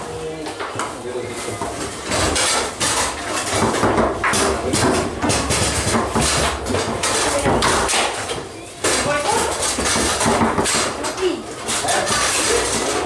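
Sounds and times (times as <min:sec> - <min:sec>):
foosball ball clattering: 0:00.4 - 0:13.0.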